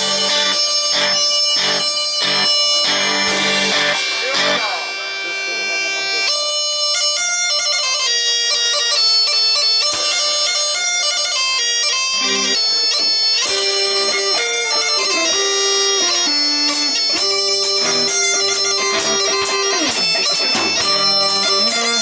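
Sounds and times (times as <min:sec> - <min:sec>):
bagpipe playing quick melody: 0:00.0 - 0:22.0.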